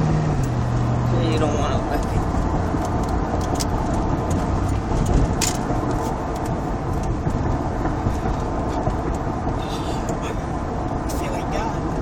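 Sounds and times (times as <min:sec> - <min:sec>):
pickup truck engine drone: 0:00.0 - 0:12.0
road noise: 0:00.0 - 0:12.0.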